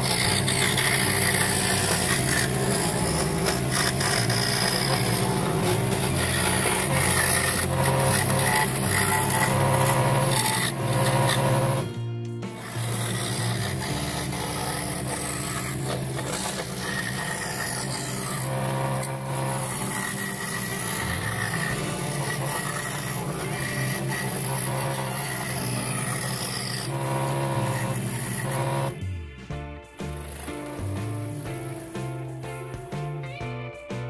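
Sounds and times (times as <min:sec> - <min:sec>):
scroll saw cutting wood: 0:00.0 - 0:29.2, 0:30.0 - 0:32.4.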